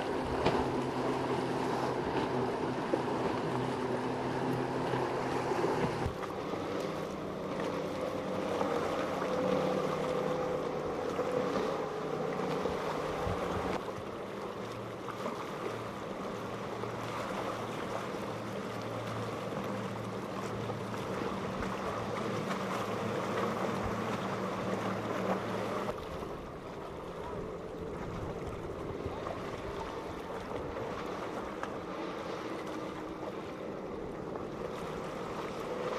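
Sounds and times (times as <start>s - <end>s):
boat engines running: 0.0s - 35.9s
rushing water: 0.0s - 35.9s
wind: 0.0s - 35.9s.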